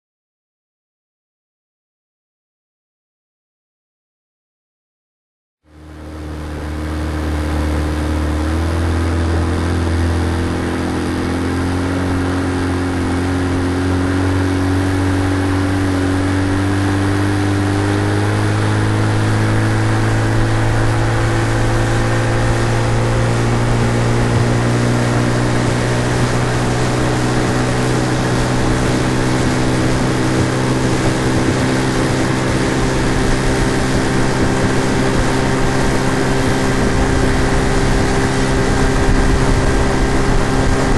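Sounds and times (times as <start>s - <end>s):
outboard motor running: 5.6s - 40.9s.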